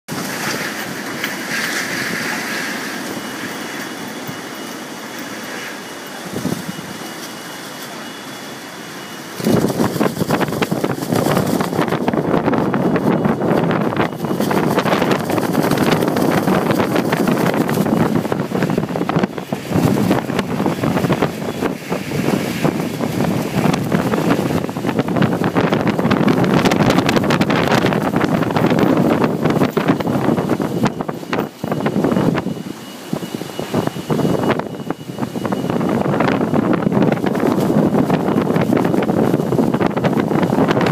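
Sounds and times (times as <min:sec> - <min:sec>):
strong wind buffeting microphone: 0:00.1 - 0:07.7, 0:09.2 - 0:40.9.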